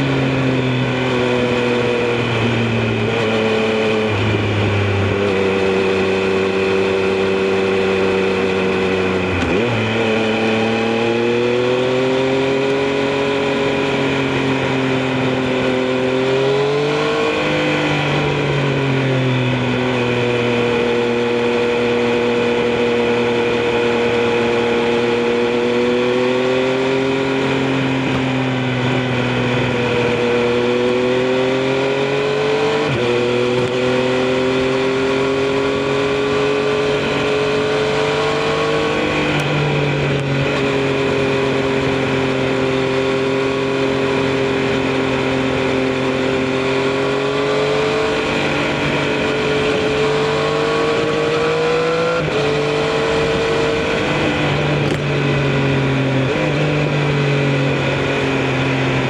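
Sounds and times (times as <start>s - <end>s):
motorcycle engine at road speed: 0.0s - 59.0s.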